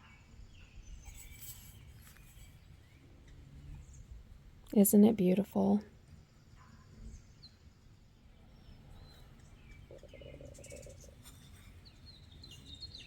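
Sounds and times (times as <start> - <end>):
faint bird chirps: 0.0 - 4.2, 6.3 - 13.0
faint steady tone: 0.0 - 13.0.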